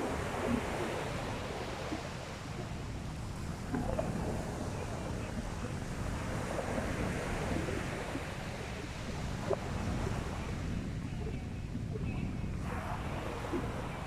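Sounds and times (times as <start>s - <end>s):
sea waves washing onto beach: 0.0s - 14.0s
wind buffeting microphone: 0.0s - 14.0s.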